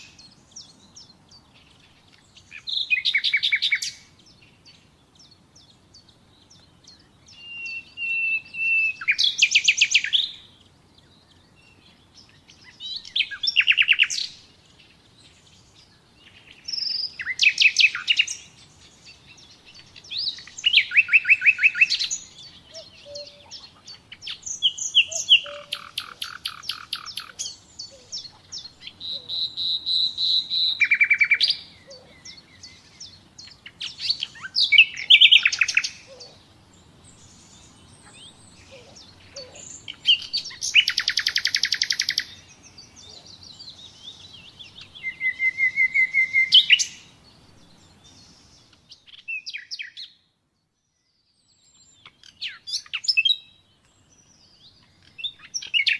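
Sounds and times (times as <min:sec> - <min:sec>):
nightingale singing: 0:00.0 - 0:55.9.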